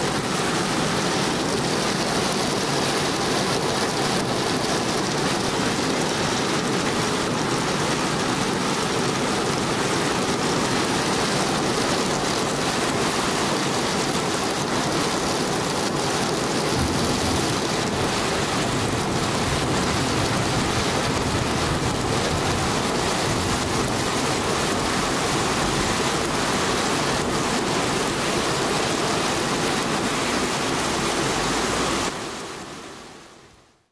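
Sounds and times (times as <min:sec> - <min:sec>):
torrential rain pouring: 0:00.0 - 0:33.9.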